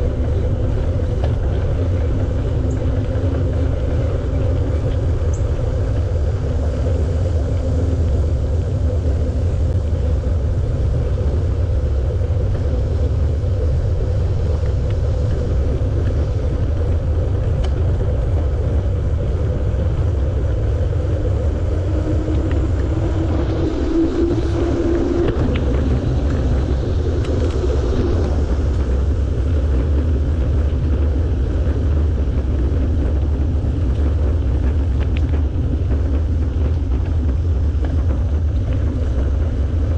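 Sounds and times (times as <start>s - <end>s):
bicycle tyre noise: 0.0s - 39.9s
wind rumble on microphone: 0.0s - 39.9s.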